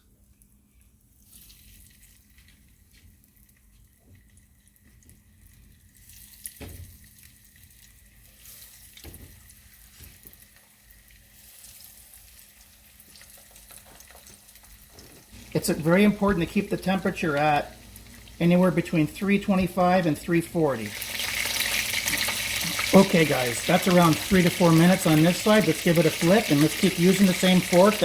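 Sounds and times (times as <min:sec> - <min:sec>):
cutlets sizzling in oil: 0:05.5 - 0:28.0.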